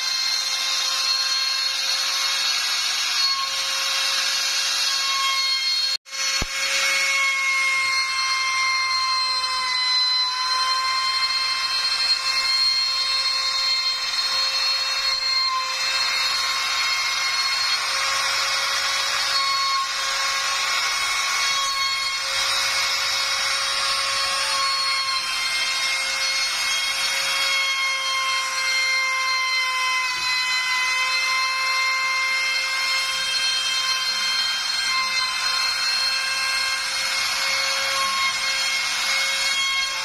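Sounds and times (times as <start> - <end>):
router spindle whine: 0.0 - 40.0.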